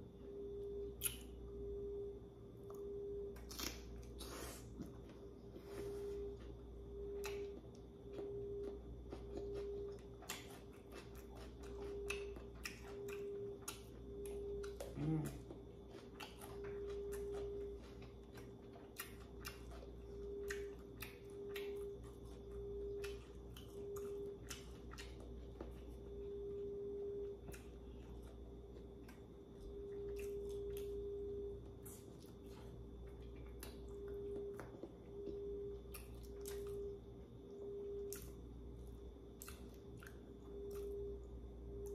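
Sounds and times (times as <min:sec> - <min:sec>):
faint steady hum: 0:00.0 - 0:41.9
wet chewing and smacking: 0:06.2 - 0:41.9.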